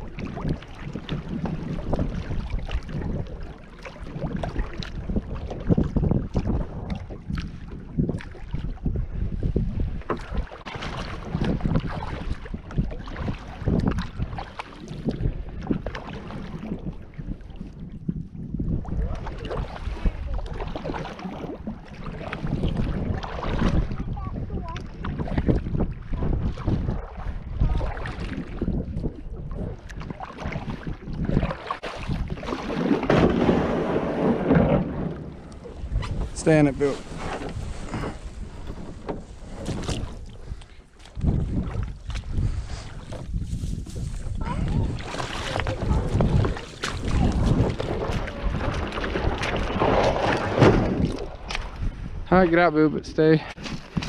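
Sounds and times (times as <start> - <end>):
paddle splashing water: 0.0 - 54.0
wind rumbling on microphone: 0.0 - 54.0.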